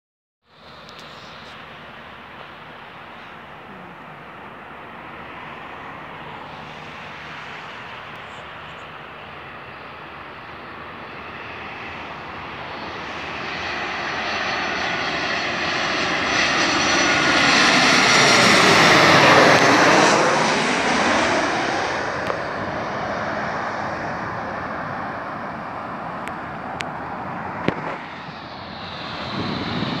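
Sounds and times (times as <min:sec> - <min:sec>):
jet engines passing overhead: 0:00.5 - 0:30.0.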